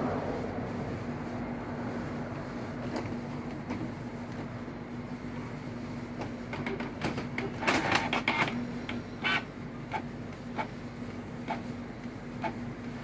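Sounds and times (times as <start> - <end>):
printer mechanism running: 0.0 - 13.0.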